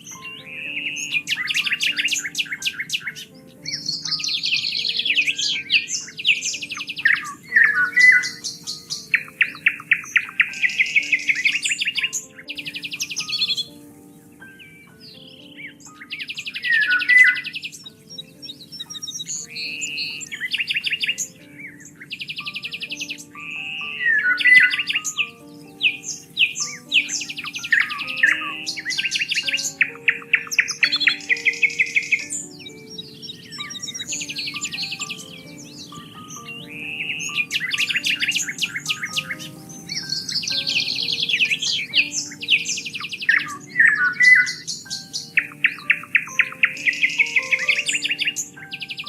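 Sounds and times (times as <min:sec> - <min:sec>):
soft background music low notes: 0:00.0 - 0:49.0
songbirds singing and chirping: 0:00.0 - 0:49.0.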